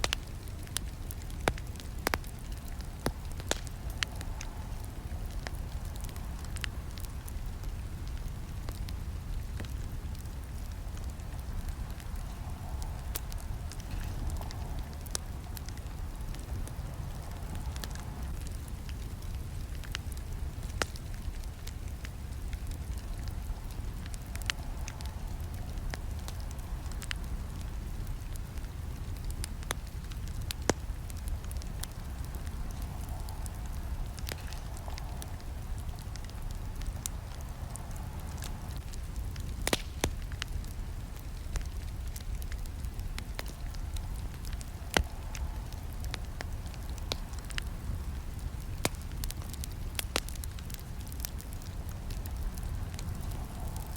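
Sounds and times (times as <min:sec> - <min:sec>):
burning wood crackling: 0:00.0 - 0:53.9
campfire flames rumbling: 0:00.0 - 0:53.9.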